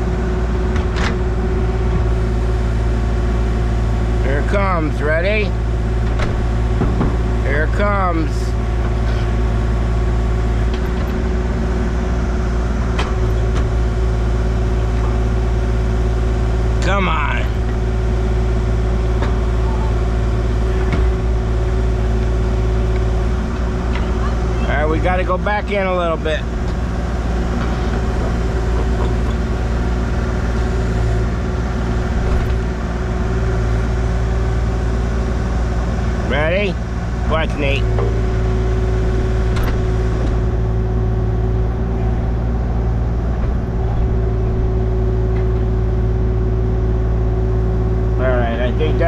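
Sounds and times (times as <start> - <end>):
heavy equipment engine running: 0.0 - 49.0.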